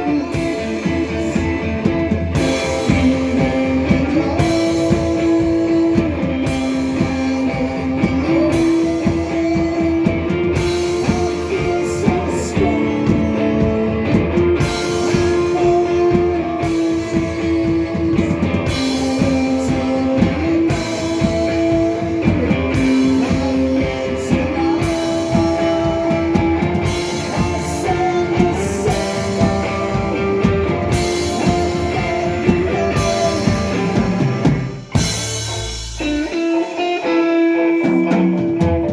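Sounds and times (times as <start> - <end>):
drum kit playing: 0.0 - 38.9
electric guitar long notes: 0.0 - 38.9.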